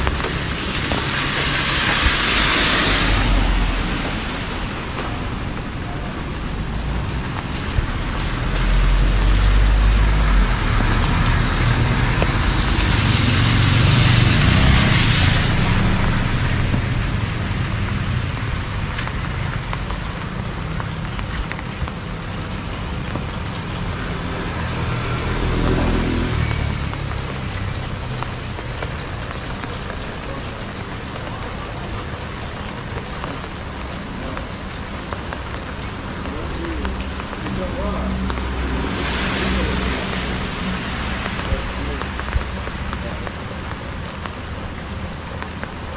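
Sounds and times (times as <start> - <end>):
rain falling: 0.0 - 45.9
tyres hissing on wet road: 0.0 - 45.9.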